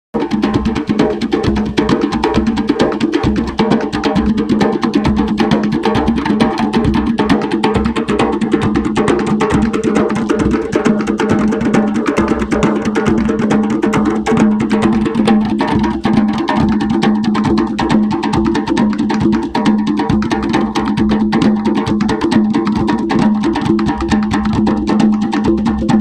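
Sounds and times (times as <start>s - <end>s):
djembes played by hand: 0.2s - 26.0s.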